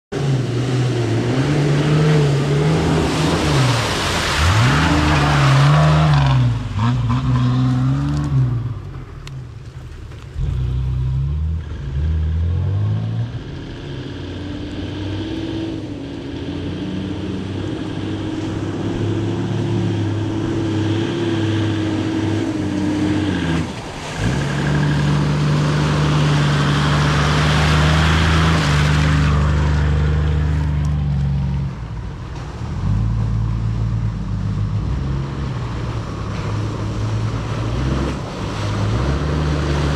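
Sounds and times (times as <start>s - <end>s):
engine revving: 0.1s - 8.8s, 10.4s - 31.8s, 32.6s - 39.9s
tyres churning through mud: 0.1s - 39.9s.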